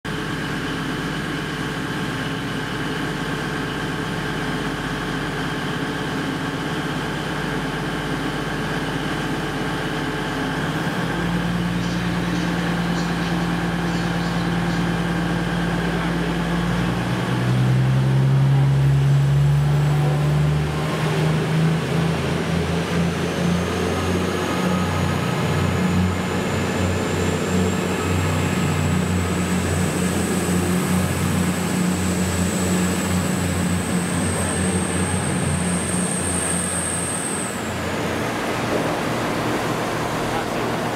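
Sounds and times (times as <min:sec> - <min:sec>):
diesel train engines idling: 0:00.1 - 0:40.9
rising whine of train: 0:00.1 - 0:40.9
train engines powering up: 0:00.1 - 0:40.9.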